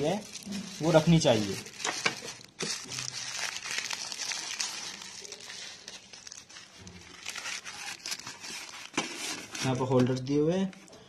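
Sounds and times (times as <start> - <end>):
paper and plastic wrappers crinkling: 0.0 - 10.7.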